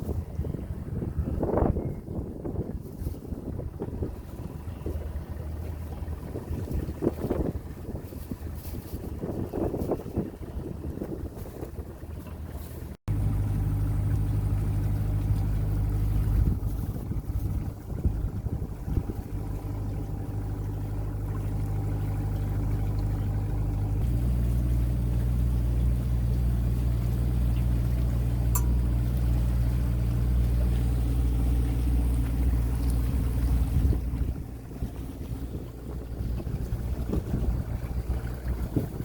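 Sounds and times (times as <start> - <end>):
wind noise: 0.0 - 13.0, 14.1 - 22.9, 23.6 - 39.0
outboard motor running: 0.0 - 39.0.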